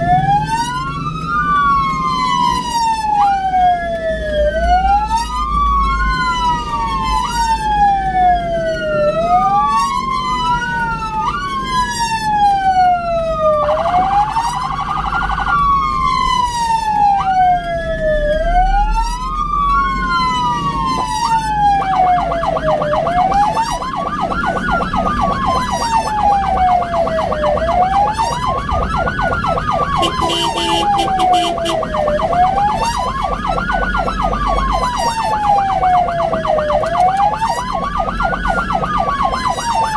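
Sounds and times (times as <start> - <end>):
ambulance siren wailing: 0.0 - 39.9
steady blaring siren tone: 0.0 - 39.9.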